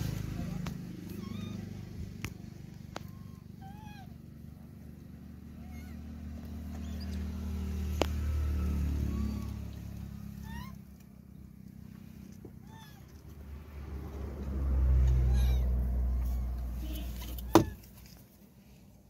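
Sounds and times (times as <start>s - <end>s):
vehicle passing by: 0.0s - 18.8s.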